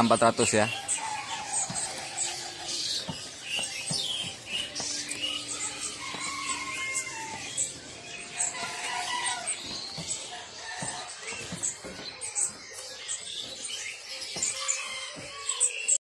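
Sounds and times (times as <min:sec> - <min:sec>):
songbirds chirping and whistling: 0:00.0 - 0:16.0.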